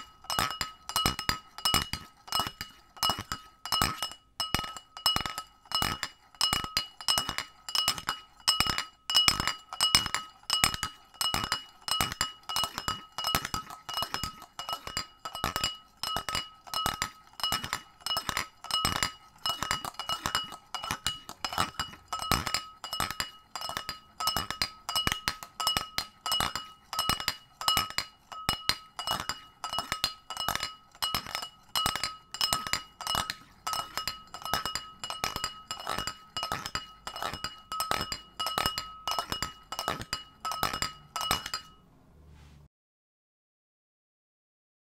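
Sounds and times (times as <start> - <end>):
glass ringing: 0.0 - 41.9.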